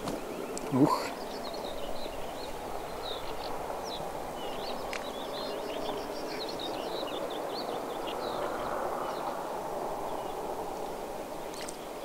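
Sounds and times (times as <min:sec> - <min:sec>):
small birds chirping: 0:00.0 - 0:09.4, 0:10.0 - 0:12.0.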